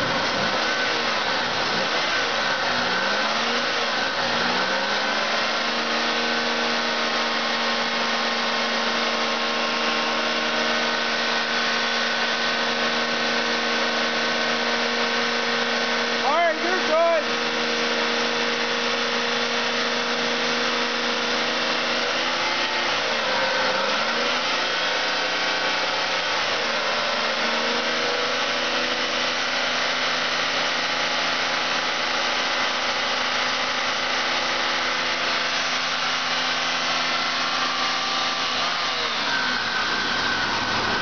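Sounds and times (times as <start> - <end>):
engine idling with whir: 0.0 - 41.0.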